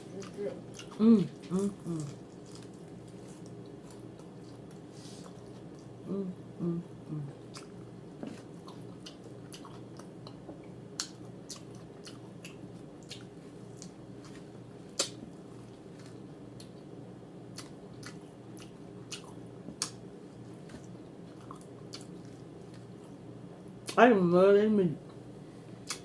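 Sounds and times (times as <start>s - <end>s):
crunchy chewing with lip smacking: 0.0s - 6.0s, 6.9s - 24.0s, 25.8s - 26.0s
steady low hum: 0.0s - 26.0s.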